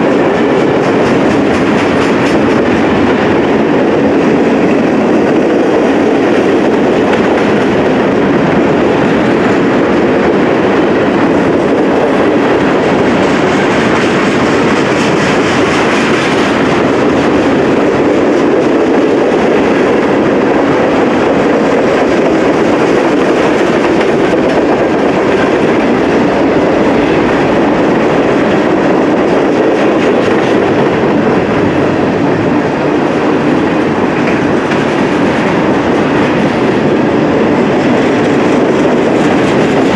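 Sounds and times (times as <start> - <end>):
wheels clacking over rail joints: 0.0 - 32.5
freight train rumbling past: 0.0 - 39.9.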